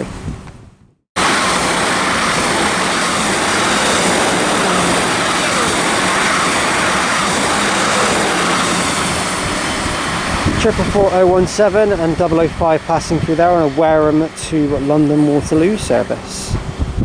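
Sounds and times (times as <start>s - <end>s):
train passing at speed: 1.2s - 17.0s.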